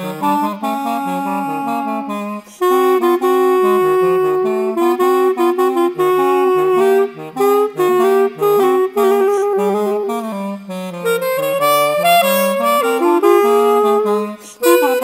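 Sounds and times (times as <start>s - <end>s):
clarinet playing blues melody: 0.0s - 15.0s.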